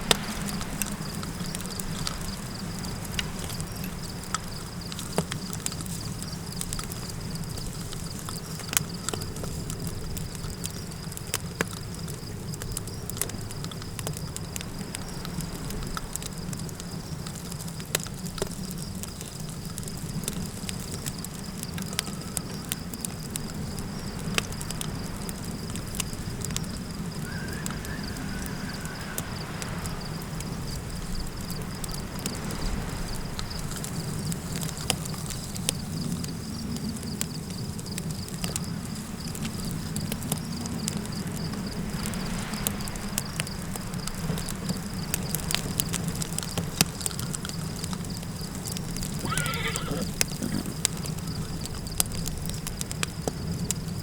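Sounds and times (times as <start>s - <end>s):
low wind rumble: 0.0s - 11.4s, 19.8s - 54.0s
high insect trill: 0.0s - 17.8s, 18.6s - 54.0s
campfire crackling and popping: 0.0s - 54.0s.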